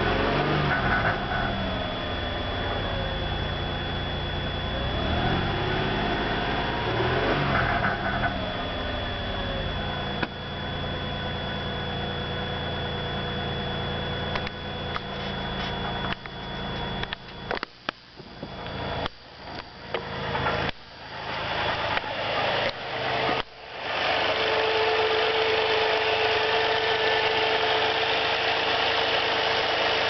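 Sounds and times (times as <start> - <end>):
car engine revving and idling: 0.0 - 17.4, 19.9 - 30.0.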